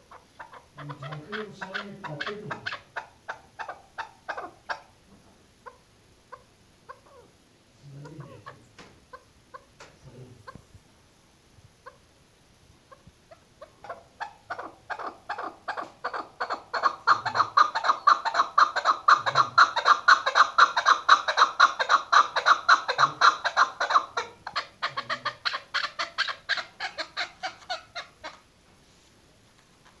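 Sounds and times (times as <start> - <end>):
partridge clucking calls: 0.0 - 10.7, 11.8 - 12.1, 12.8 - 28.5.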